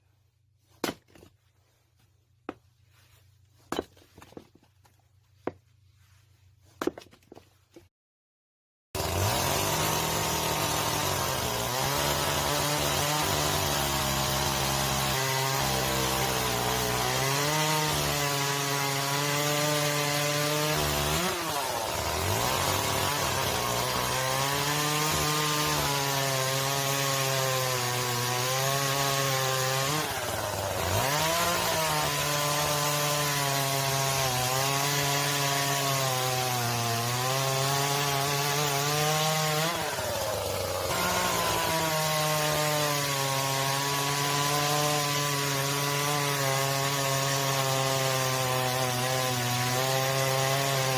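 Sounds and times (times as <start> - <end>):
chainsaw cutting wood: 9.0 - 50.9.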